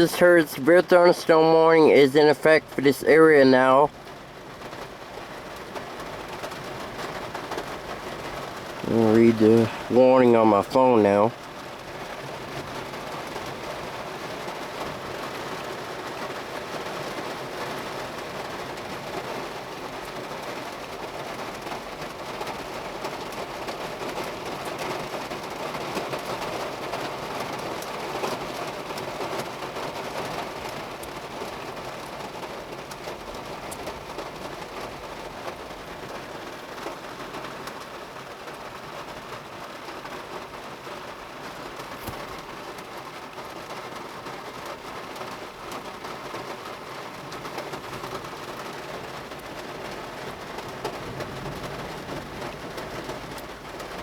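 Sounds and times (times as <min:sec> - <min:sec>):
heavy rain pelting on a car: 0:00.0 - 0:54.0.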